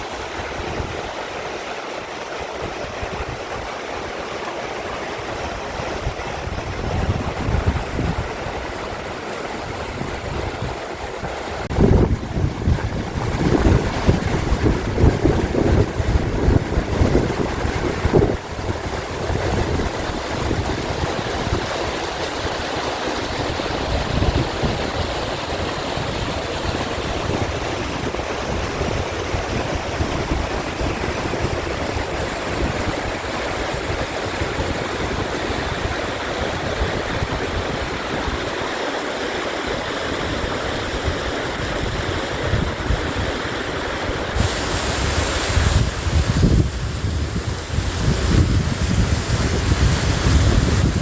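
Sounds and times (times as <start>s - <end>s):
mountain stream rushing: 0.0s - 51.0s
wind buffeting microphone: 2.3s - 38.8s, 39.8s - 51.0s.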